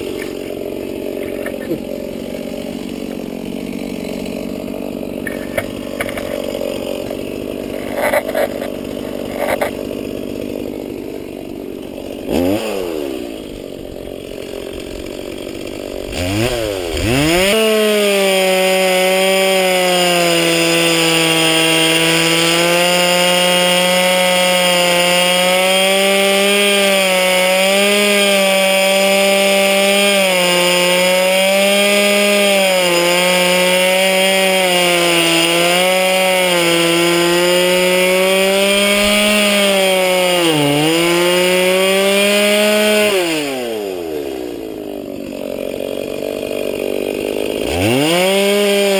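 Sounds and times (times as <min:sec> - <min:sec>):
chainsaw revving and cutting: 0:00.0 - 0:48.9.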